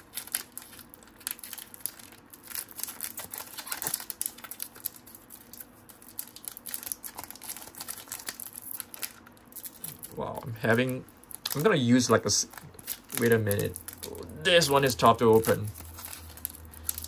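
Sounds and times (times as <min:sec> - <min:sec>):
trading cards clicking and rustling: 0:00.0 - 0:17.0.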